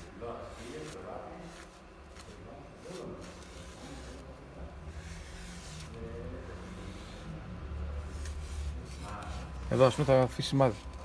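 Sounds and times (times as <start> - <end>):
cloth wiping strokes on plastic: 0.0 - 11.0.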